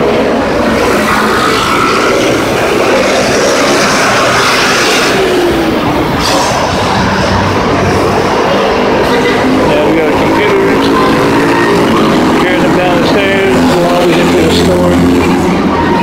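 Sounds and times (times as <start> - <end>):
busy street traffic: 0.0 - 16.0.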